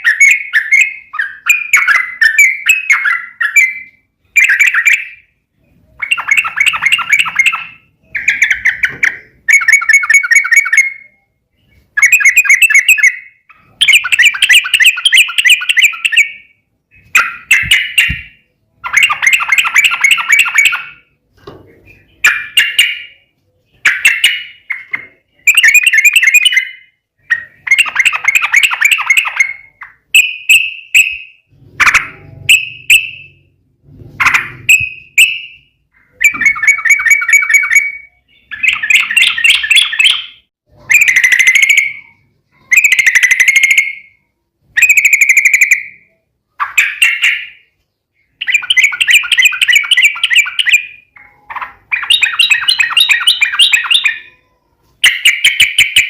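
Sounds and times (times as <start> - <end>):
bird chirps: 0.0 - 56.0.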